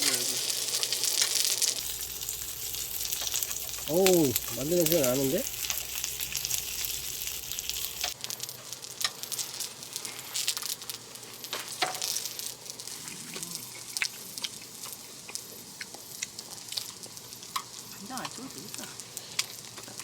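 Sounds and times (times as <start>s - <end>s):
meat sizzling in a pan: 0.0s - 20.0s.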